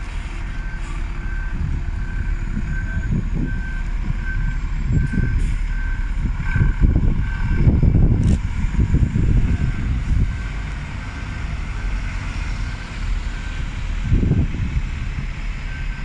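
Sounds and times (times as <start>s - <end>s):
reversing alarm beeping: 0.0s - 14.7s, 15.6s - 16.0s
bus engine running: 0.0s - 16.0s.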